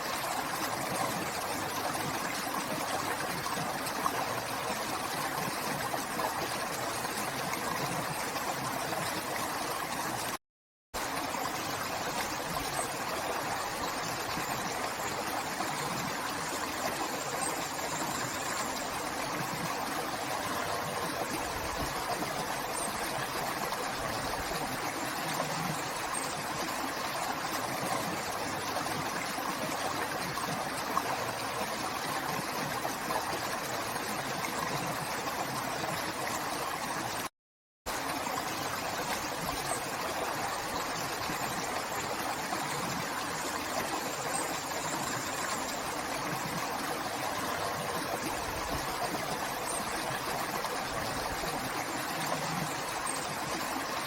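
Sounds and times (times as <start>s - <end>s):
river water flowing: 0.0s - 10.4s, 11.0s - 37.3s, 37.9s - 54.0s.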